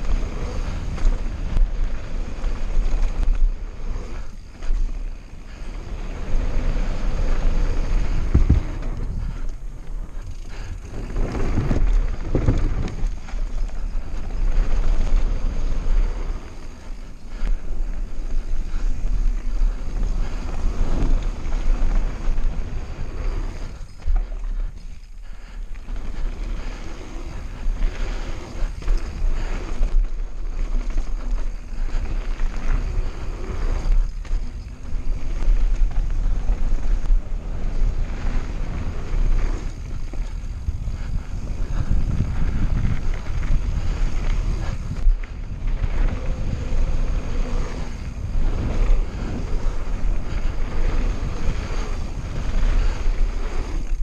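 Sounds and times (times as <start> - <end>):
tyre noise on gravel trail: 0.0 - 54.0
wind rushing over microphone: 0.0 - 54.0.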